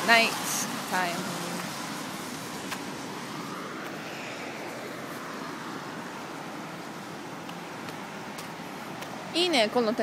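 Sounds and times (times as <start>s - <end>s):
tyres hissing on wet road: 0.0s - 9.4s
car passing: 0.0s - 10.0s.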